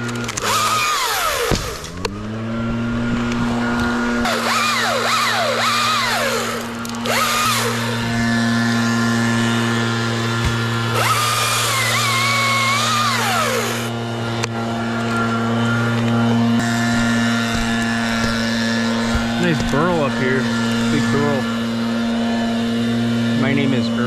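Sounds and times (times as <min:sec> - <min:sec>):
chainsaw cutting: 0:00.0 - 0:24.0
chainsaw revving: 0:00.0 - 0:24.0
low engine drone: 0:00.0 - 0:24.0.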